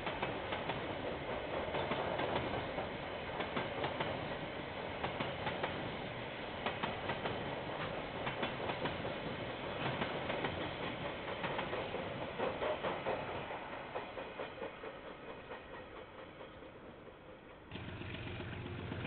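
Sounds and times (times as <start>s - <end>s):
train wheels clacking over rail joints: 0.0s - 17.9s
train rumble: 0.0s - 19.0s.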